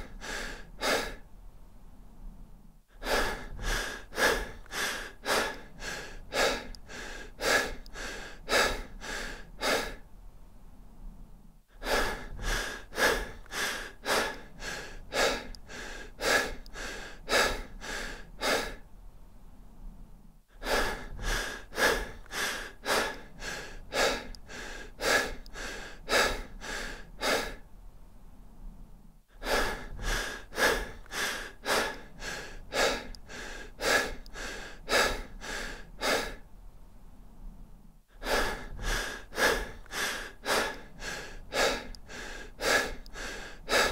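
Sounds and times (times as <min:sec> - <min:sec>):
person breathing fast: 0:00.0 - 0:01.3, 0:02.0 - 0:10.1, 0:10.8 - 0:18.9, 0:19.6 - 0:27.7, 0:28.4 - 0:36.5, 0:37.4 - 0:43.9.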